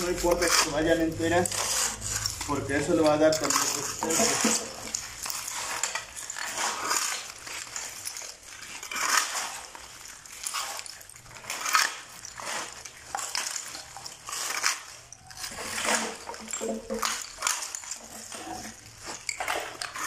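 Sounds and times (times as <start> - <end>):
shovel scraping on concrete: 0.0 - 20.0.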